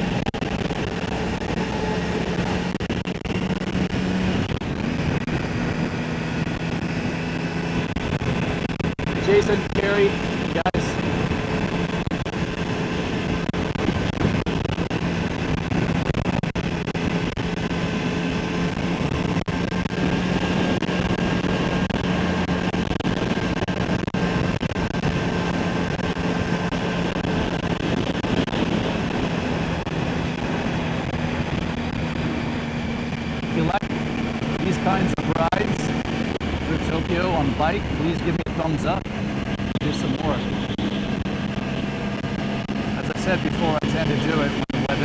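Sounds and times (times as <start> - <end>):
motorcycle engine running steadily: 0.0 - 45.0
wind noise: 0.0 - 45.0.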